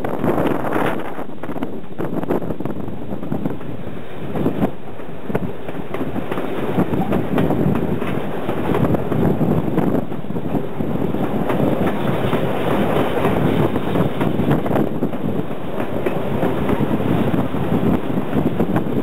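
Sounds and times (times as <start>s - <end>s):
train rushing noise: 0.0s - 19.0s
train wheels clattering on rails: 0.2s - 19.0s.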